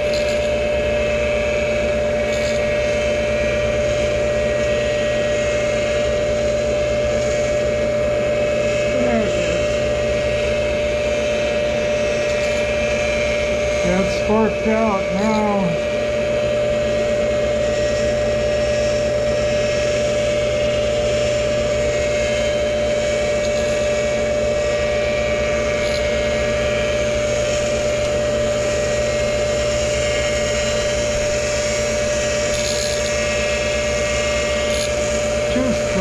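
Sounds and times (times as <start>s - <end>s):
grinder whining: 0.0s - 36.0s.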